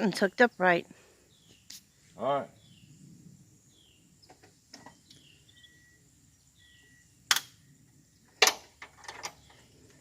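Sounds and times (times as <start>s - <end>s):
faint bird chirps: 0.2s - 8.4s.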